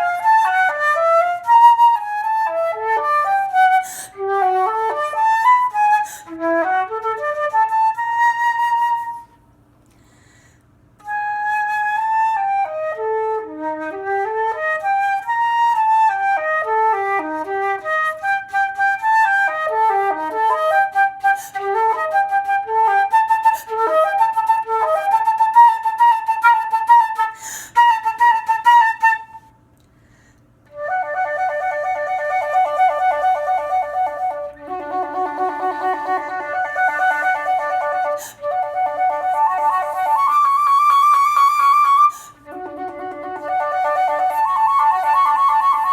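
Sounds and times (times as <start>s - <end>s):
solo flute playing: 0.0s - 9.5s, 11.0s - 29.6s, 30.7s - 45.9s.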